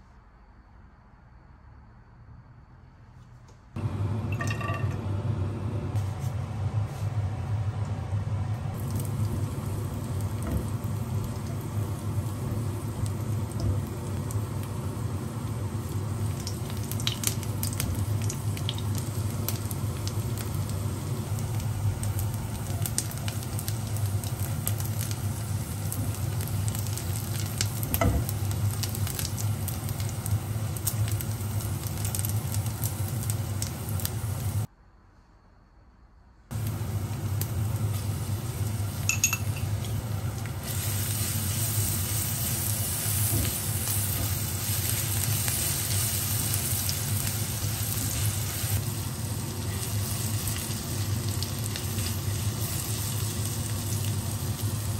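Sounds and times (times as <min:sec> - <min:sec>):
shrimp sizzling in oil: 0:08.8 - 0:34.7, 0:36.6 - 0:54.9.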